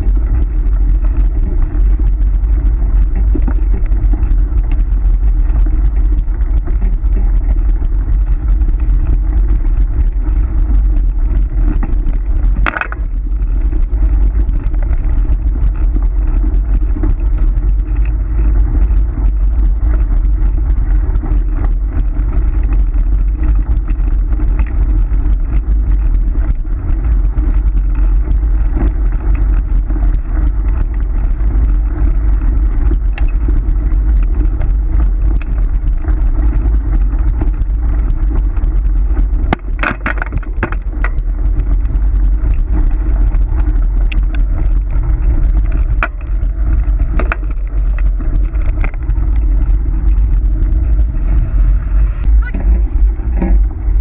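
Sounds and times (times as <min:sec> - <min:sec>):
scooter rolling over gravel: 0:00.0 - 0:54.0
wind on microphone: 0:00.0 - 0:54.0.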